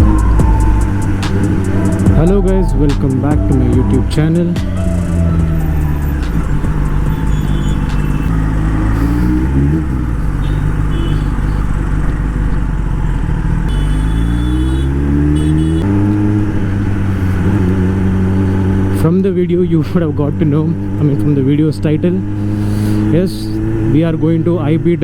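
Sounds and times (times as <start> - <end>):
motorcycle engine accelerating: 0.0 - 19.3, 20.1 - 24.1.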